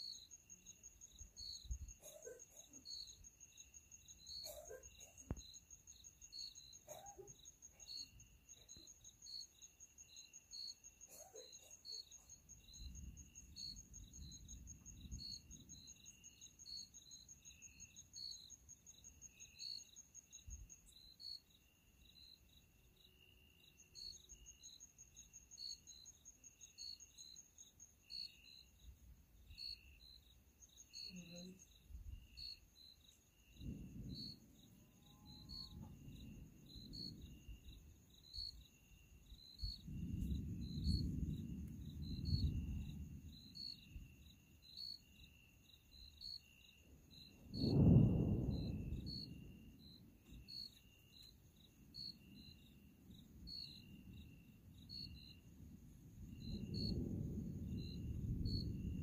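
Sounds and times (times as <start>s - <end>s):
crickets trilling and chirping: 0.0s - 59.0s.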